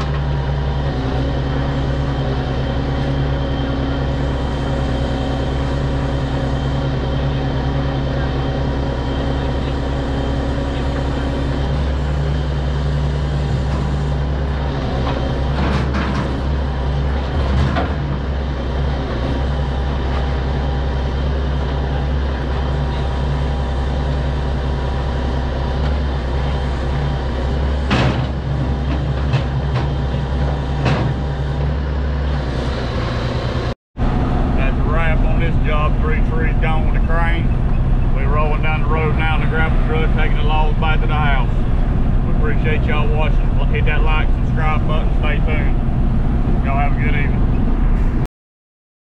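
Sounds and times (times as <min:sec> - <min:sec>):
truck engine running: 0:00.0 - 0:48.3.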